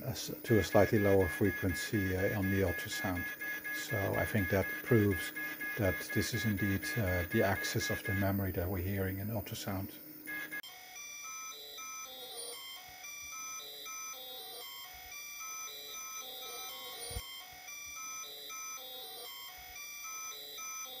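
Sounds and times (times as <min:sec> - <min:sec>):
beeping tune: 0:00.5 - 0:08.4, 0:10.3 - 0:21.0.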